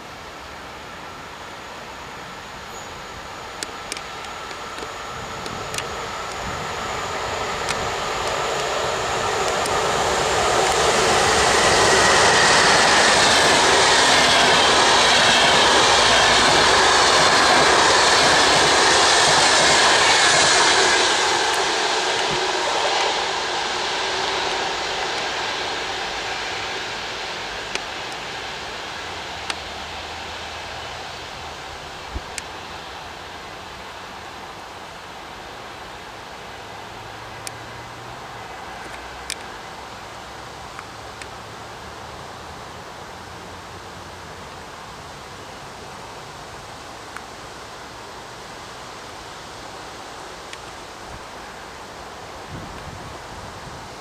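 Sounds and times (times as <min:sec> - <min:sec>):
train passing at speed: 0:00.0 - 0:54.0.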